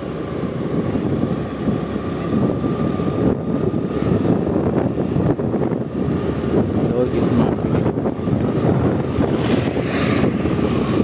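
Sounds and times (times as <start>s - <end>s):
vehicle and road noise: 0.0s - 11.0s
wind buffeting microphone: 0.0s - 11.0s.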